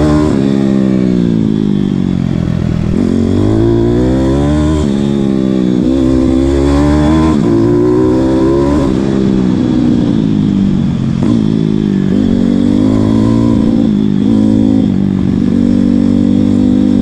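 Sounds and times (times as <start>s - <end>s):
pit bike engine revving: 0.0s - 17.0s.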